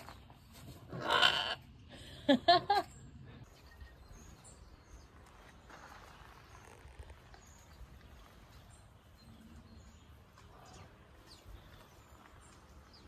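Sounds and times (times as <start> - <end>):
small birds chirping: 1.6 - 13.0.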